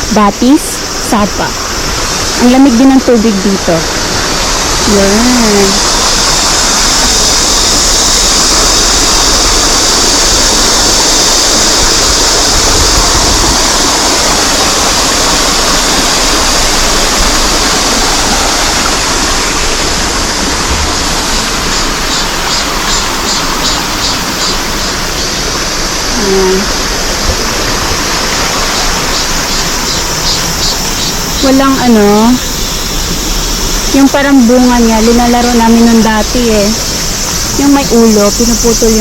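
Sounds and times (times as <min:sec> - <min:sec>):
stream flowing: 0:00.0 - 0:39.0.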